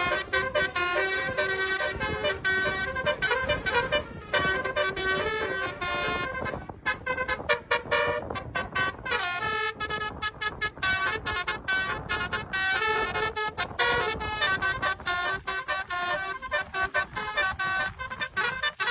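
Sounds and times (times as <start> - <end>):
bus multi-tone horn tune: 0.0 - 18.9.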